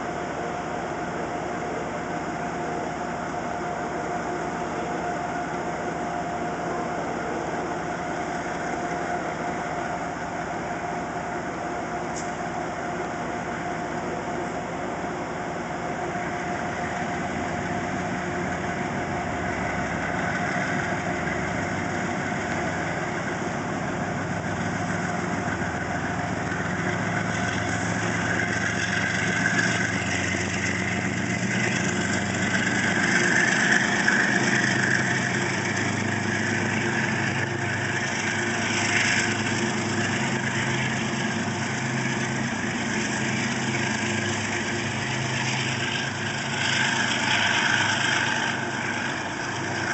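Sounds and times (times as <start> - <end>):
diesel locomotive running: 0.0 - 49.9.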